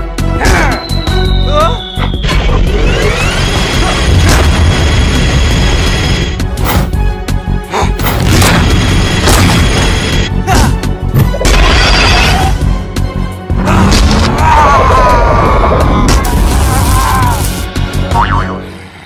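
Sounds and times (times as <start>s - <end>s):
cartoon background music: 0.0s - 19.0s.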